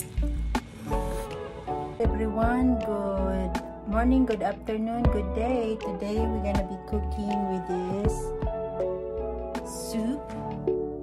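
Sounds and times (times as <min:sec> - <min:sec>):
background music with bass pulse: 0:00.0 - 0:11.0.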